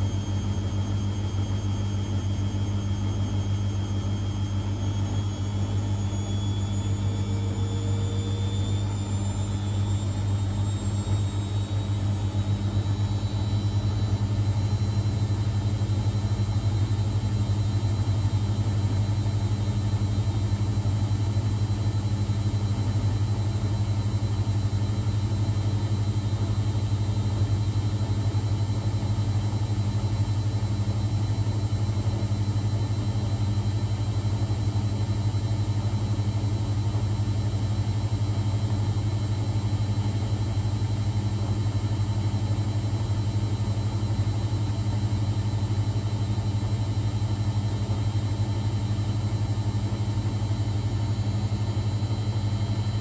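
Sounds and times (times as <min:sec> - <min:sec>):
washing machine humming: 0:00.0 - 0:53.0.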